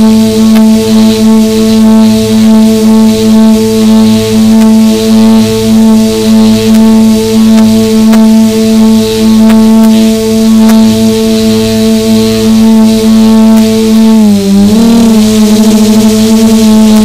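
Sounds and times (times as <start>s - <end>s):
drone motors humming: 0.0s - 17.0s.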